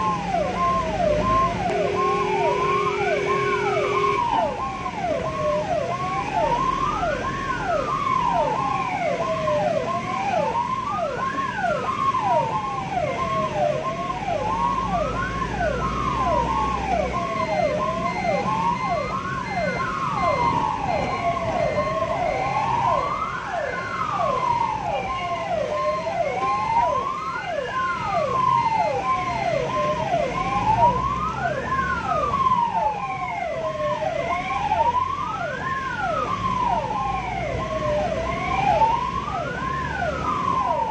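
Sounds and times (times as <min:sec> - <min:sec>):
ambulance siren wail: 0:00.0 - 0:40.9
ambulance siren yelp: 0:00.0 - 0:40.9
low road rumble: 0:00.0 - 0:40.9.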